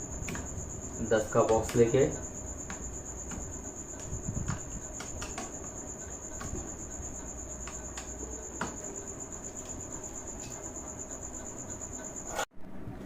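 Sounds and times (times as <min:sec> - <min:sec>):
cricket chirping: 0:00.0 - 0:12.5.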